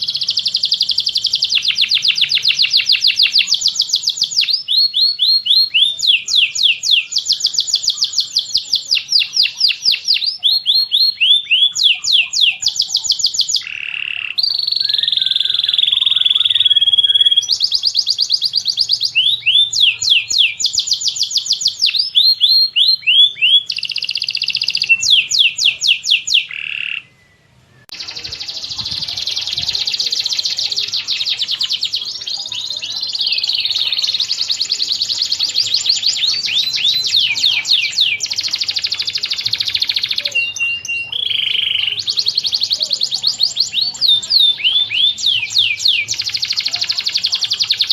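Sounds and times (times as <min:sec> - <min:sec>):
birds chirping and warbling: 0:00.0 - 0:47.9.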